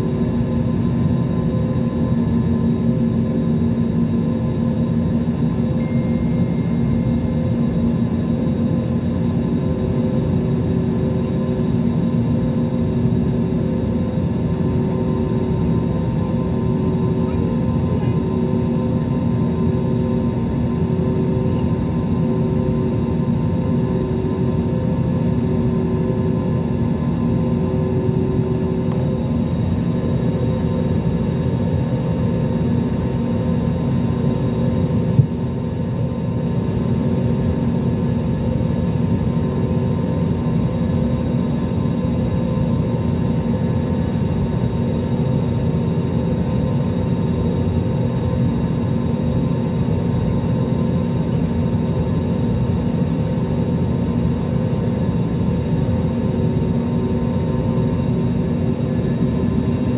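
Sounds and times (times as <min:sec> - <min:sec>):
jet engines idling: 0:00.0 - 0:59.9
steady whine: 0:00.0 - 0:59.9.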